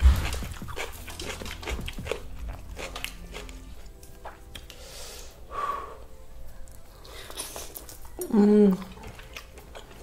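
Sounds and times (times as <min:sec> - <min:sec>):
chewing crispy fried chicken: 0:00.0 - 0:04.8, 0:06.6 - 0:10.0.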